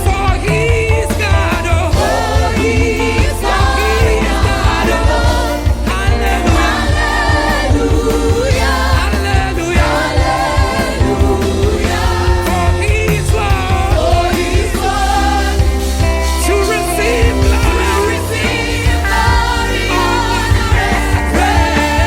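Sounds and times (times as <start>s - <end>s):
gospel choir singing with band: 0.0s - 22.0s.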